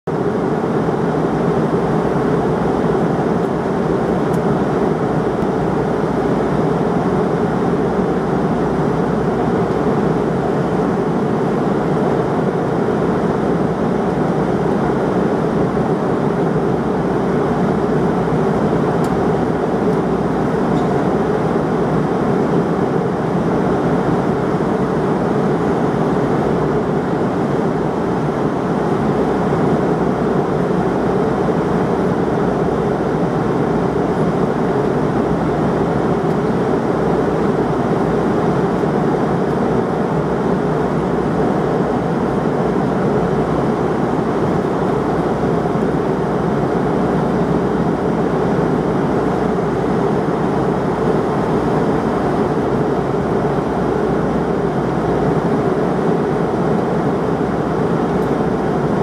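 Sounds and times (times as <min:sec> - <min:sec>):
airliner engines droning: 0:00.1 - 0:59.0.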